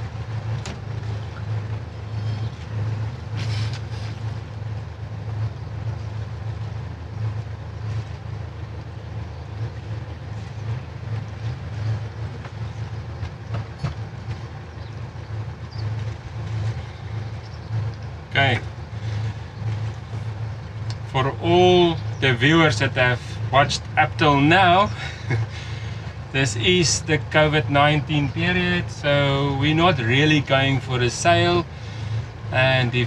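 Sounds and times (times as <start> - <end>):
diesel engines throbbing at low revs: 0.0 - 33.0.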